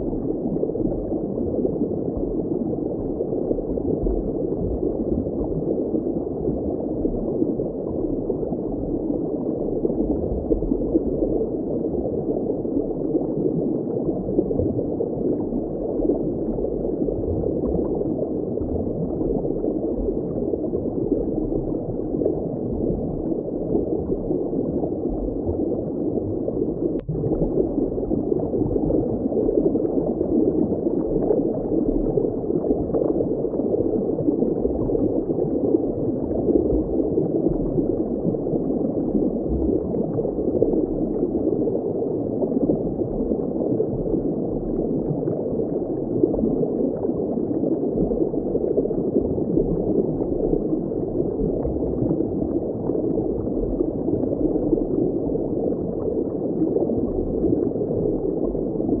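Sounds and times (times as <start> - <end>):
underwater bubbling and gurgling: 0.0 - 59.0.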